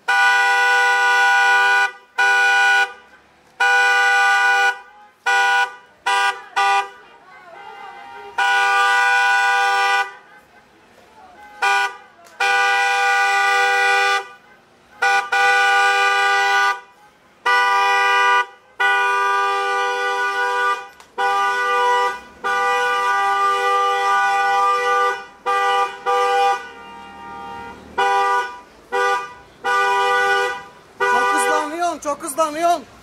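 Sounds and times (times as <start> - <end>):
car horn honking: 0.0 - 32.8.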